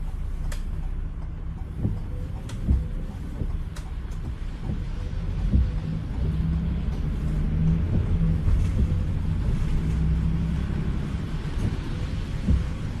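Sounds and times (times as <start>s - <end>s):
car cabin rumble on wet road: 0.0s - 13.0s.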